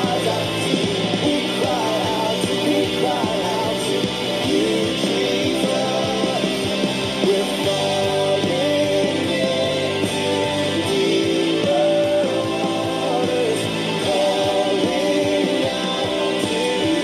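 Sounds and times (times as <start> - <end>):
worship song singing: 0.0 - 17.0.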